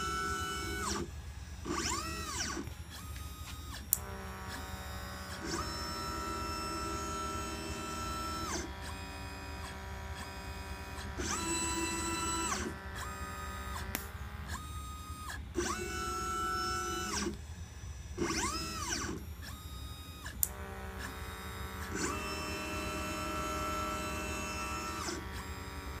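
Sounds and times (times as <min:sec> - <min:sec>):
steady low hum: 0:00.0 - 0:26.0
stepper motors whining: 0:00.0 - 0:26.0.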